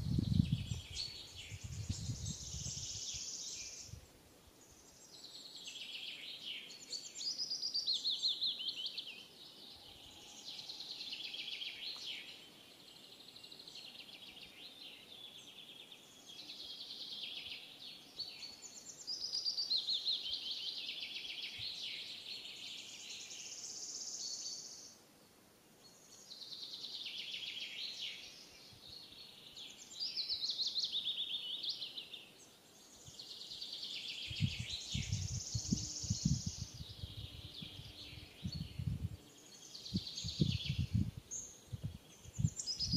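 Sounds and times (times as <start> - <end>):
songbirds chirping and trilling: 0.0 - 42.9.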